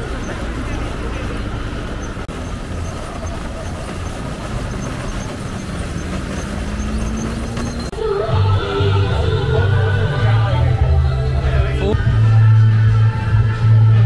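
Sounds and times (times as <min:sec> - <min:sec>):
road traffic noise: 0:00.0 - 0:14.0
vehicle engine running: 0:00.0 - 0:14.0.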